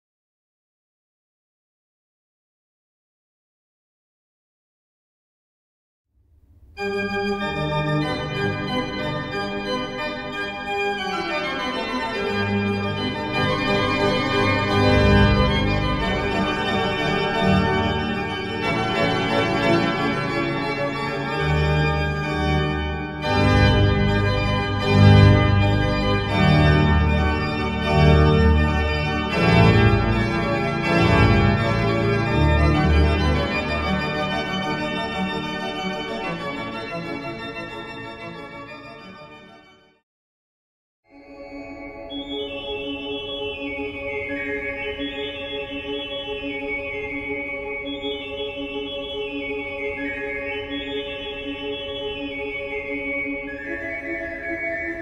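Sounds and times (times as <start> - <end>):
pipe organ chords: 6.6 - 40.0, 41.2 - 55.0.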